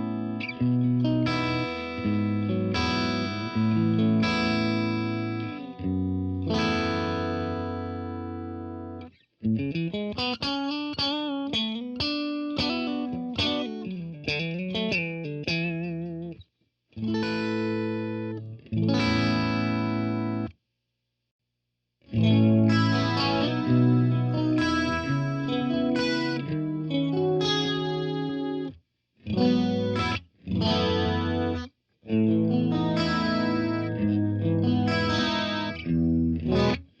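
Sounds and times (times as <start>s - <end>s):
overdriven electric guitar: 0.0s - 16.4s, 17.0s - 20.5s, 22.1s - 37.0s.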